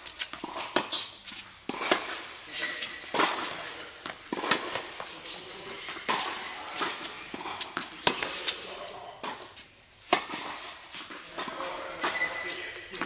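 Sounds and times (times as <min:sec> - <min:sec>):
tennis balls bouncing on court: 0:00.0 - 0:13.0
tennis balls struck by rackets: 0:00.0 - 0:13.0.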